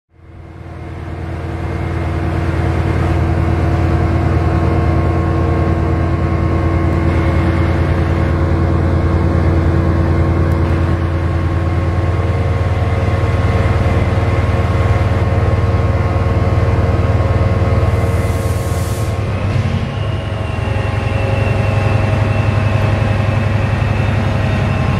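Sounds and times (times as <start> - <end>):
diesel locomotive engine droning: 0.1 - 24.9.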